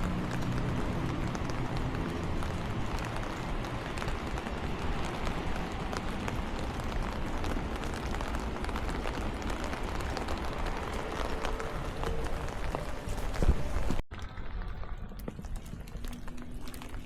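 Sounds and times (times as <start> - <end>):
raindrops ticking on surfaces: 0.0 - 17.0
steady rain: 0.0 - 17.0.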